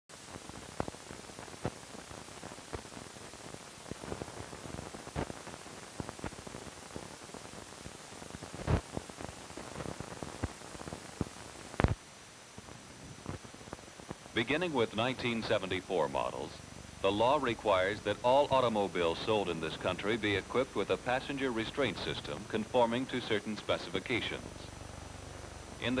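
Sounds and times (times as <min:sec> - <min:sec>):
film soundtrack hiss and crackle: 0:00.1 - 0:26.0.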